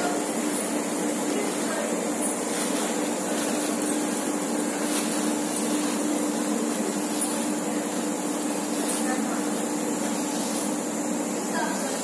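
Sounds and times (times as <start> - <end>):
industrial machinery hiss: 0.0 - 12.0
low machinery hum: 0.0 - 12.0.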